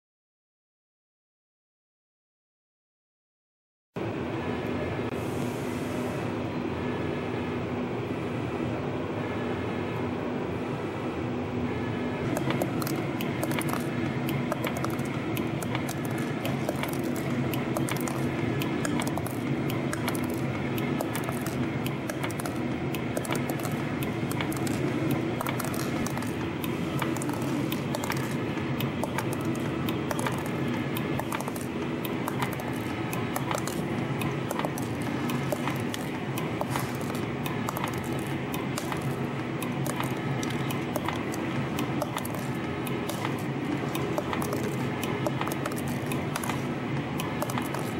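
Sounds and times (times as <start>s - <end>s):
machine motor hum: 4.0s - 47.9s.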